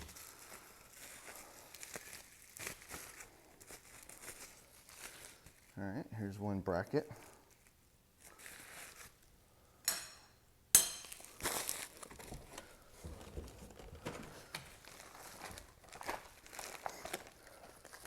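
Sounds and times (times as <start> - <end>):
packing materials crinkling: 0.0 - 5.8, 7.2 - 9.3, 11.1 - 18.0.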